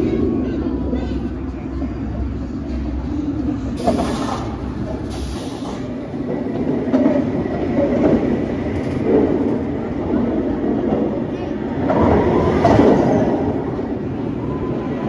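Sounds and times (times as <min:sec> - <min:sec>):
roller coaster wheel rumble and clatter: 0:00.0 - 0:15.0.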